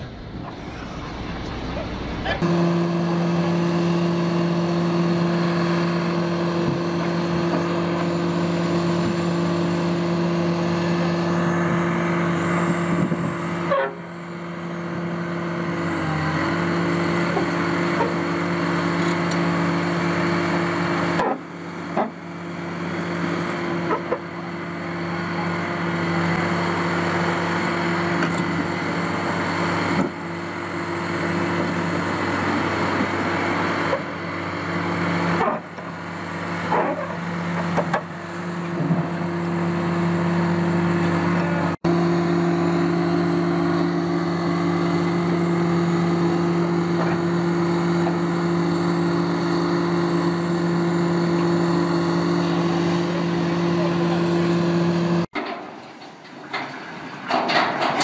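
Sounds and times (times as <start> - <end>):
heavy diesel machinery drone: 0.0 - 58.0.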